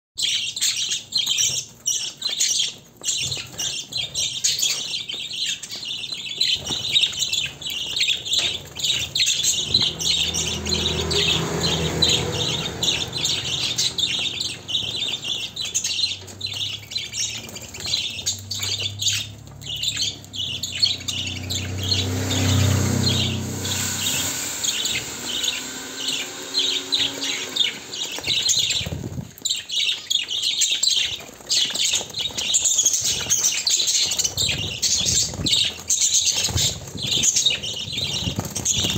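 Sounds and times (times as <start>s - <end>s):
budgerigars chattering: 0.2s - 38.9s.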